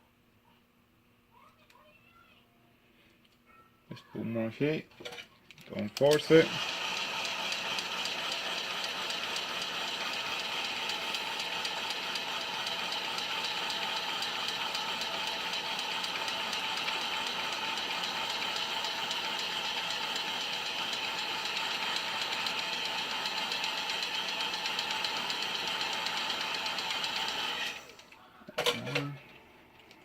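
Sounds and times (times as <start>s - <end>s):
heat gun fan whirring: 5.6s - 30.0s.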